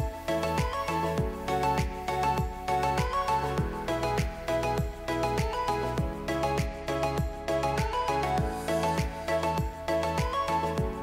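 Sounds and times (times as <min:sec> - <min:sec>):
bright melody: 0:00.0 - 0:11.0.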